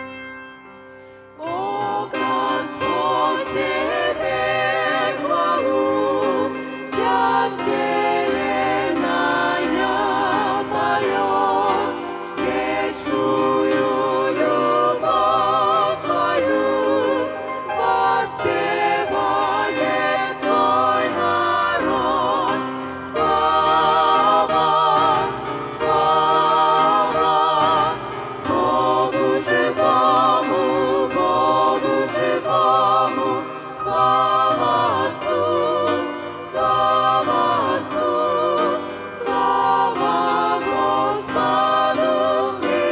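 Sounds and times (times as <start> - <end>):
group singing a hymn: 1.4 - 42.9.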